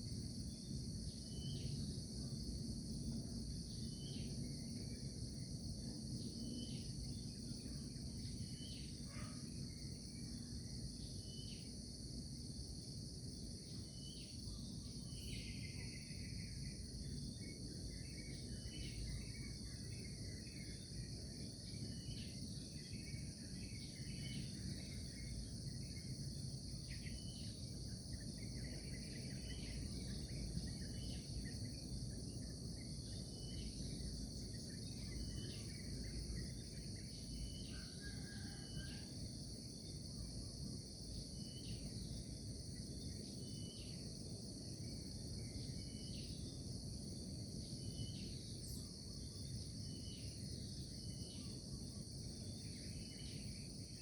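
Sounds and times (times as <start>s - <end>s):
crickets chirping chorus: 0.0s - 54.0s.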